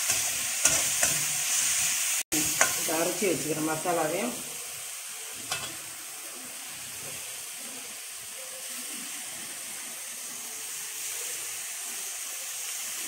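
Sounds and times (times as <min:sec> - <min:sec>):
onions and tomatoes sizzling in oil: 0:00.0 - 0:13.0.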